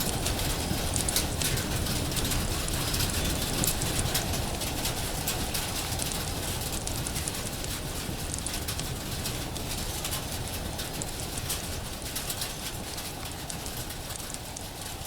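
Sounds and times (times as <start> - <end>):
steady rain: 0.0 - 15.0
wood fire crackling and popping: 0.0 - 15.0.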